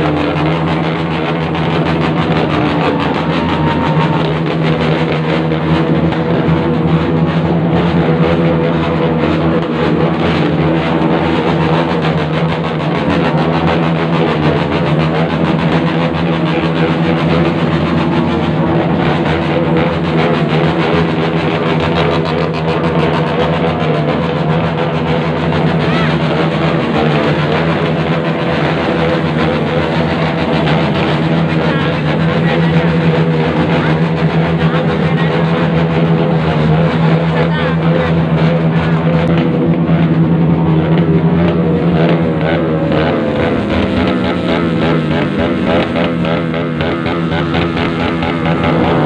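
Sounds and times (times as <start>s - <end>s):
motorcycles revving: 0.0s - 49.0s.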